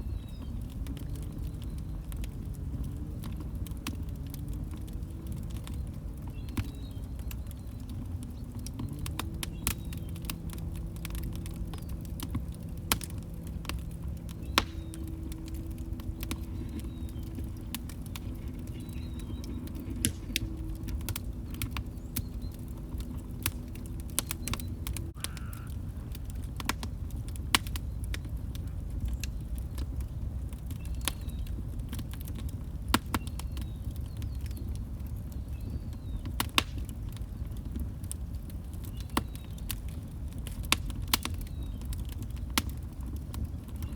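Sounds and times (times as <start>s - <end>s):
log fire crackling and popping: 0.0s - 43.9s
low steady hum: 0.0s - 43.9s.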